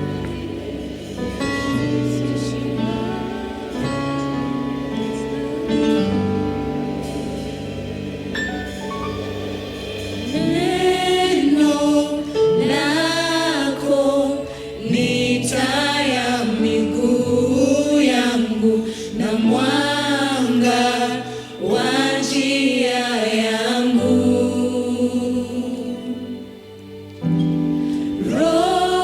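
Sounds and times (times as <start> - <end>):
held instrumental chords: 0.0 - 29.0
voices singing gospel: 0.0 - 29.0.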